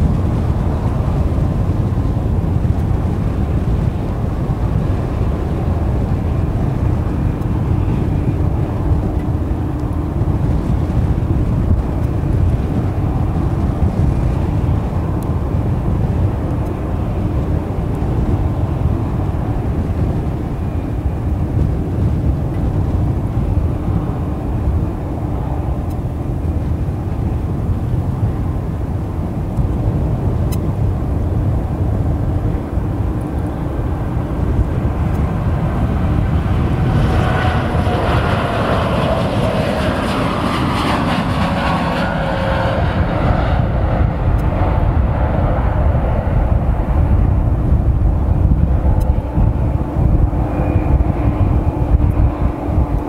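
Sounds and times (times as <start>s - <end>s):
jet engine whine falling in pitch: 0.0s - 53.0s
jet engines heavy rumble: 0.0s - 53.0s.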